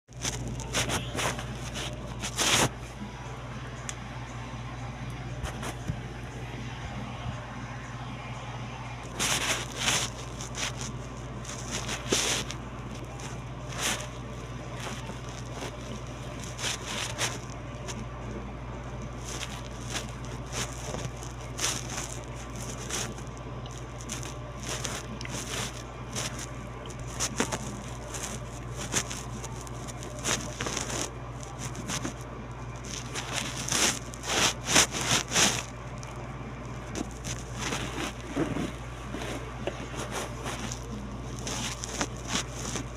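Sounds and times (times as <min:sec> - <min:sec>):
chewing and crunching food: 0:00.1 - 0:04.0, 0:09.0 - 0:42.9
low hum: 0:00.1 - 0:42.9.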